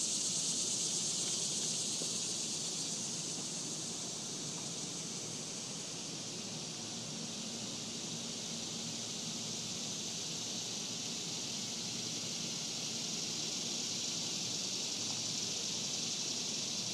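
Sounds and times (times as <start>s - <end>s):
high-pitched hiss: 0.0s - 16.9s.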